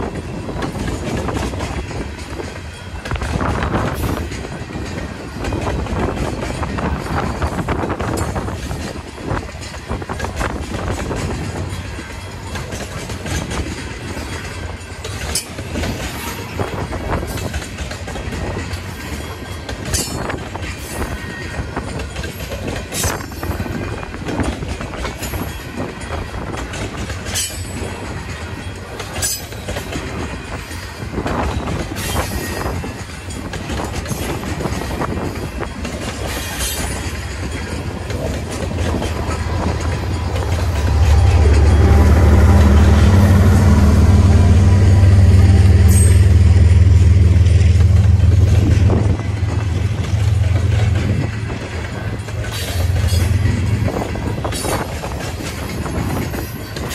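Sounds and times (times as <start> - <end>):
freight train rumbling past: 0.0 - 56.9
wheels clicking over rail joints: 0.0 - 56.9.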